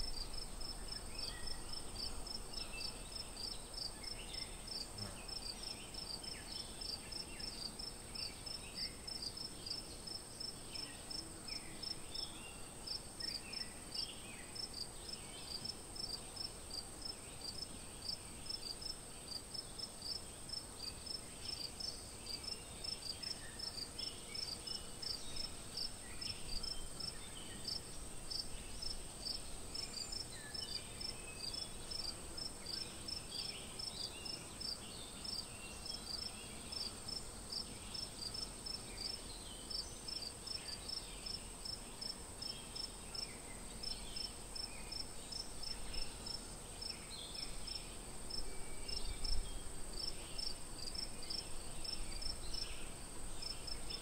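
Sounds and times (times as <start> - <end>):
insects chirping: 0.0 - 12.3, 12.9 - 54.0
faint high insect sounds: 0.0 - 54.0
insects droning: 0.0 - 54.0.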